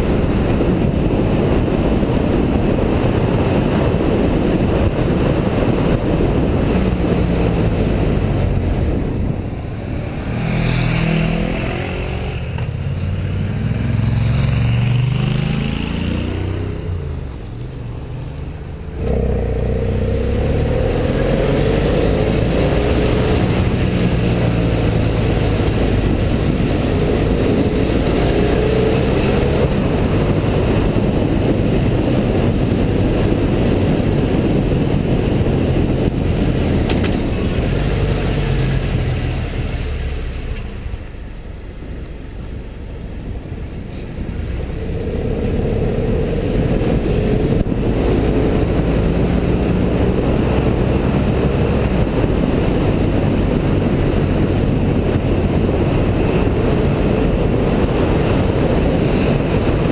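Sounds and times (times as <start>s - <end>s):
motorcycle engine: 0.0s - 59.9s
wind rushing over microphone: 0.0s - 59.9s.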